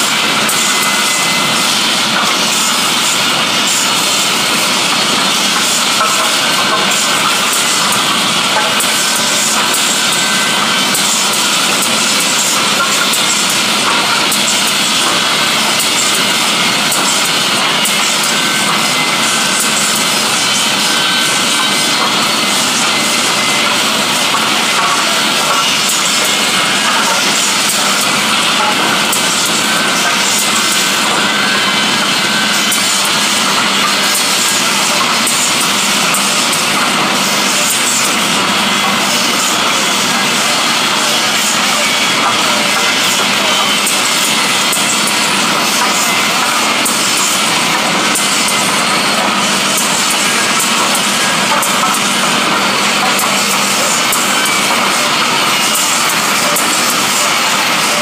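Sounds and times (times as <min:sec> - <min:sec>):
woodworking machine cutting timber: 0:00.0 - 0:58.0.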